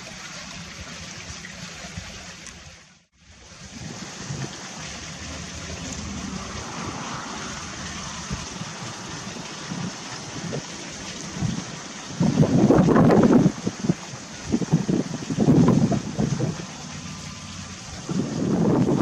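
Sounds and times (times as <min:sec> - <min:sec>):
wind buffeting microphone: 0:03.6 - 0:19.0.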